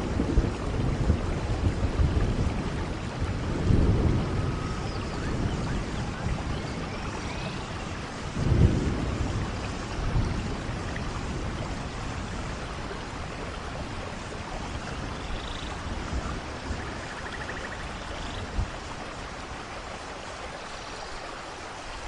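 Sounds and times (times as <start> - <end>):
soft rain falling: 0.0 - 22.0.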